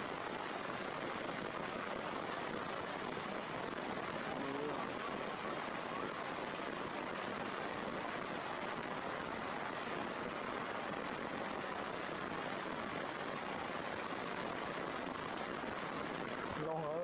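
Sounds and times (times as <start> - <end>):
rain falling on stone: 0.0 - 17.0.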